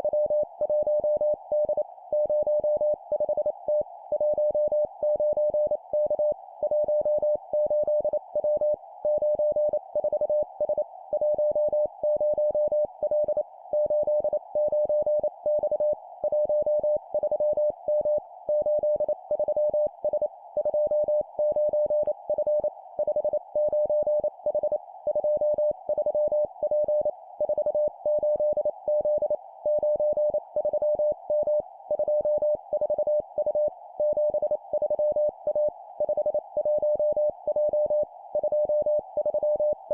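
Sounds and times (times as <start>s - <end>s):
morse code beeps: 4.2s - 39.9s.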